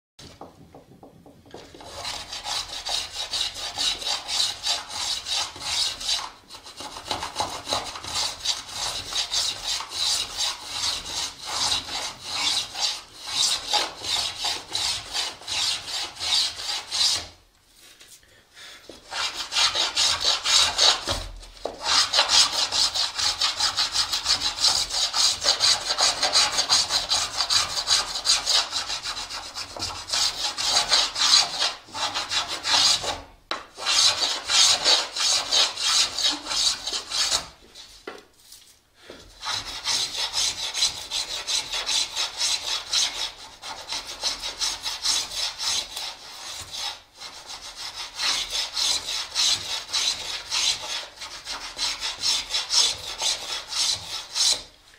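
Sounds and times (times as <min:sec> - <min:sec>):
hand plane rasping on wood: 0:01.6 - 0:17.4, 0:19.0 - 0:33.2, 0:33.8 - 0:37.6, 0:39.4 - 0:54.7.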